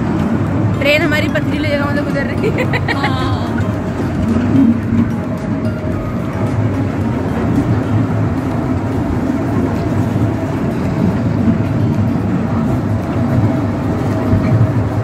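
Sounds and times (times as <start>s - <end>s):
ride train rumbling on track: 0.0s - 15.0s.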